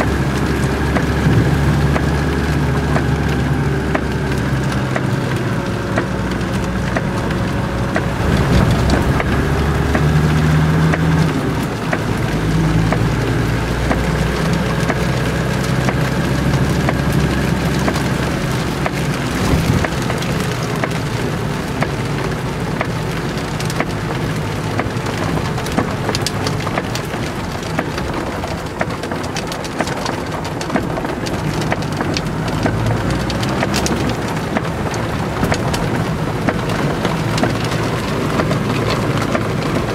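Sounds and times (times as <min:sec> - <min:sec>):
car engine humming: 0:00.0 - 0:39.9
rain on car roof: 0:00.0 - 0:39.9.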